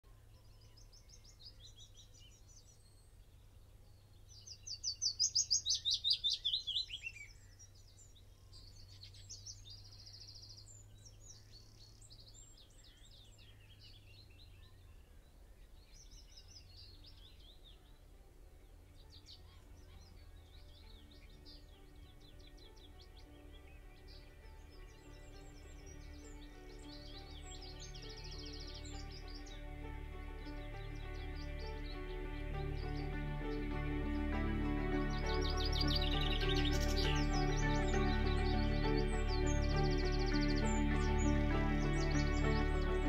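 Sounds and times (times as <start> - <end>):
bird song of rapid notes: 0.0 - 43.0
songbirds singing: 0.0 - 43.0.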